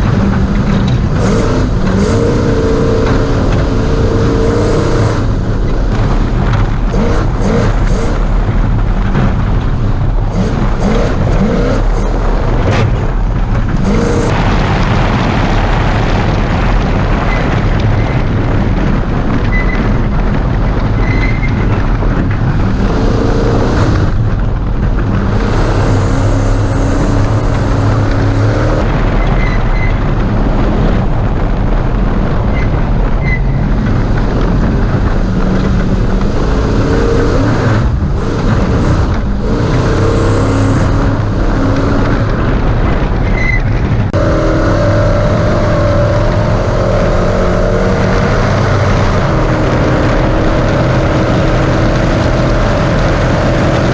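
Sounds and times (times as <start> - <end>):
truck engine revving: 0.0 - 29.7, 30.3 - 53.9.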